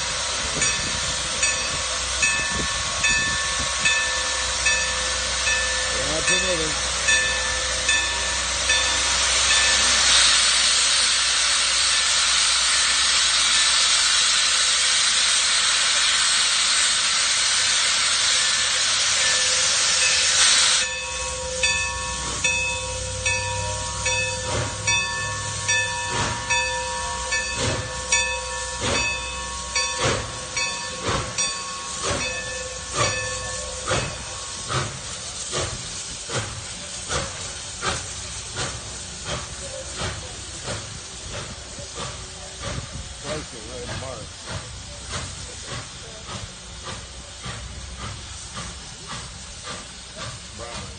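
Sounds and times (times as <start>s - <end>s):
loud steam hiss: 0.0s - 50.9s
steam locomotive exhaust chuffs: 0.0s - 50.9s.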